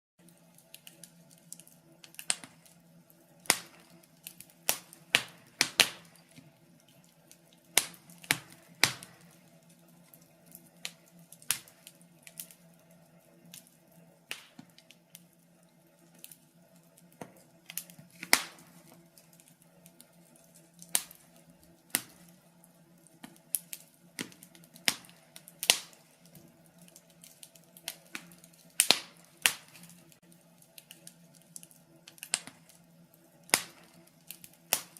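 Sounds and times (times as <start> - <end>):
wood fire crackling: 0.2 - 34.9.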